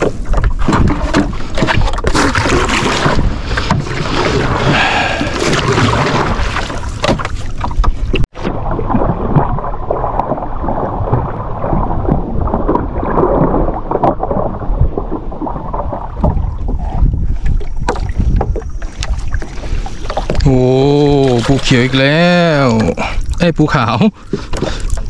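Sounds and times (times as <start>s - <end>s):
wind buffeting microphone: 0.0s - 22.0s
water splashing and sloshing: 0.0s - 25.0s.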